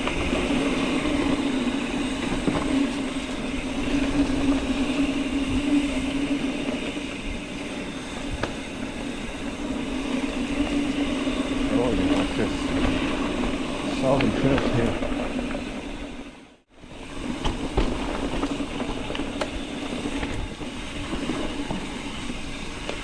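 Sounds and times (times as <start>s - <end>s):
bike tyres rolling on dirt: 0.0s - 23.0s.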